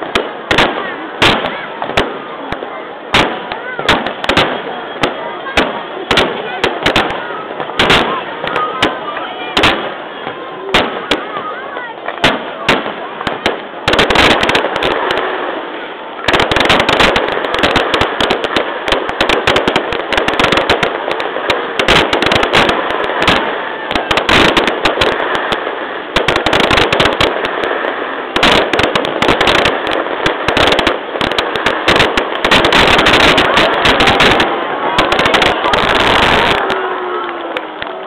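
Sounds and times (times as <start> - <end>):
fireworks bangs with crackling: 0.0 - 38.0.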